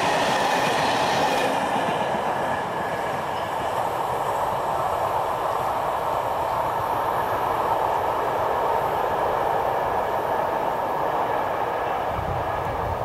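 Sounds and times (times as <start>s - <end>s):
train wagons rolling on rails: 0.0s - 13.0s.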